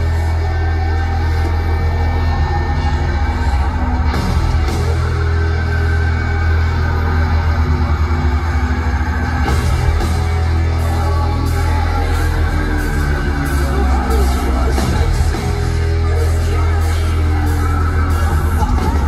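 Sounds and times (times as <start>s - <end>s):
heavy metal band playing live: 0.0s - 19.0s.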